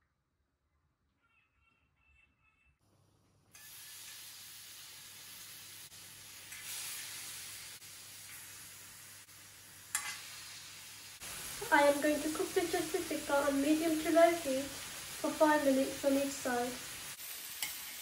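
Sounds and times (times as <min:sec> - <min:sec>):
meat sizzling on a hot pan: 0:03.6 - 0:18.0.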